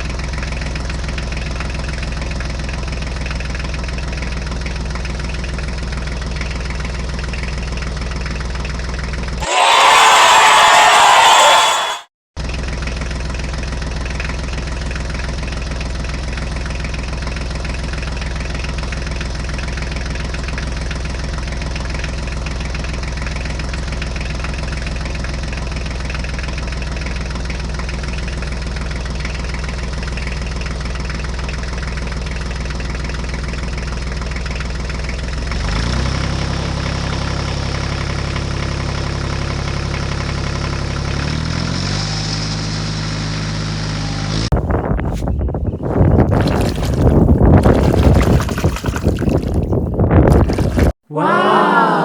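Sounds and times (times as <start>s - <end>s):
vehicle engine idling and revving: 0.0s - 9.4s, 12.4s - 46.2s.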